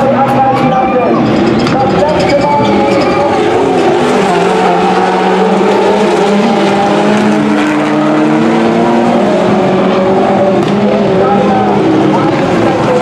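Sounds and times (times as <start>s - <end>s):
racing car engines at high revs: 0.0s - 13.0s.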